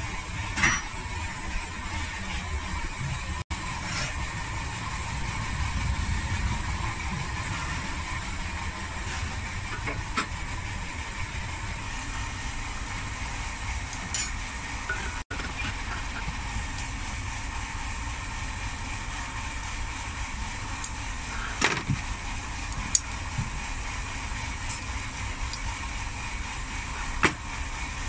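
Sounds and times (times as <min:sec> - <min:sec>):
low roar of gas furnace burners: 0:00.0 - 0:28.0.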